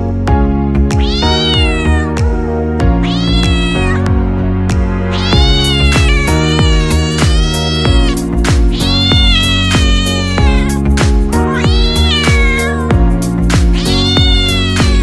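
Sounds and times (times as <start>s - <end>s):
background music with beat: 0.1s - 15.0s
cat meowing: 0.9s - 4.2s, 5.1s - 15.0s.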